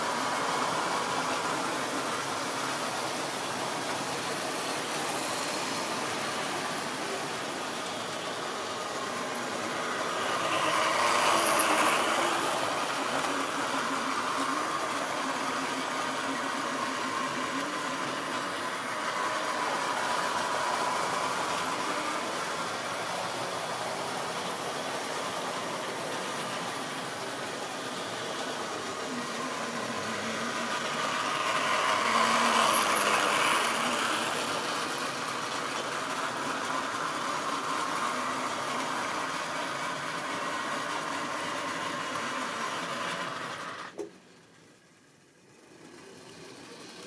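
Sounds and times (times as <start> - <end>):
model train motor hum: 0.0 - 47.0
wheels rattling over rail joints: 0.0 - 47.0.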